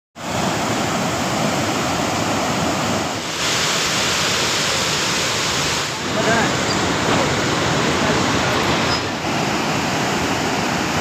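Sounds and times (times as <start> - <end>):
floodwater rushing through gates: 0.2 - 11.0.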